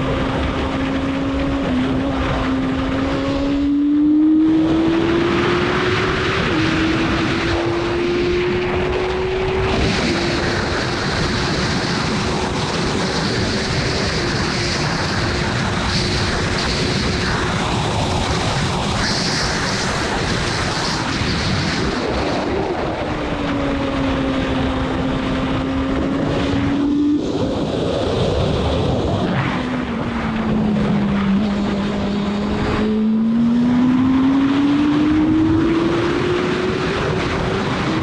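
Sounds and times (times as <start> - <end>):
motorcycle engine at high revs: 0.0 - 38.0
wind rush: 0.0 - 38.0.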